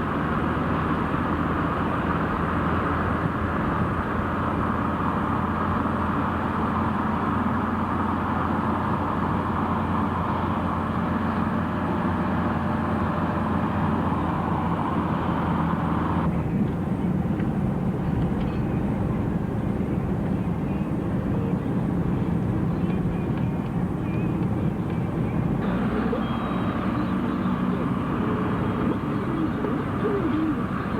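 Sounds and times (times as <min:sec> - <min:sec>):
rushing road noise: 0:00.0 - 0:30.9
vehicle engine hum: 0:00.0 - 0:30.9.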